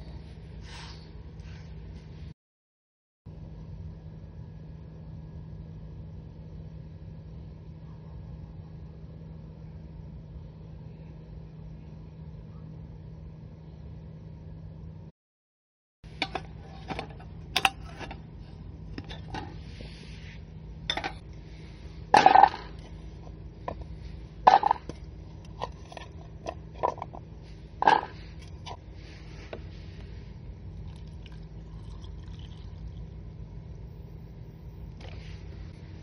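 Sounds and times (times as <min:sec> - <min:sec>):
low steady hum: 0:00.0 - 0:02.4, 0:03.3 - 0:15.1, 0:16.0 - 0:36.0.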